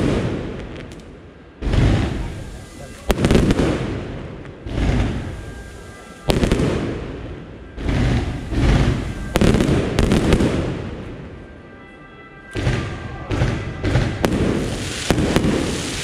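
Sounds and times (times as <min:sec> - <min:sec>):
fireworks bursting: 0:00.0 - 0:11.4, 0:12.5 - 0:16.0.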